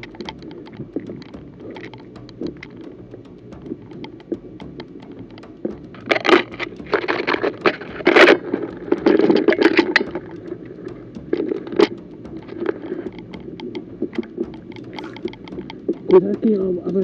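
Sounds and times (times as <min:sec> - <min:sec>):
small clicks: 0:00.0 - 0:17.0.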